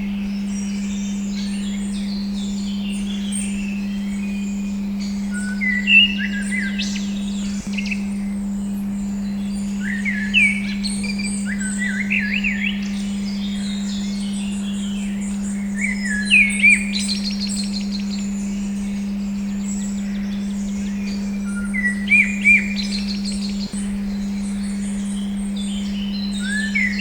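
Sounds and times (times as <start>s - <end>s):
birdsong chirps and trills: 0.0s - 27.0s
steady pure tone hum: 0.0s - 27.0s.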